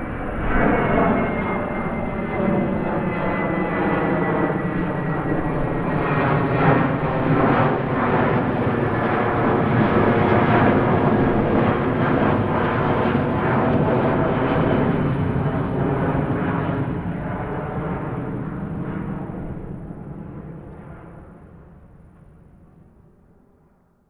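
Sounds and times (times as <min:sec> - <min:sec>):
airplane engine hum: 0:00.0 - 0:23.9.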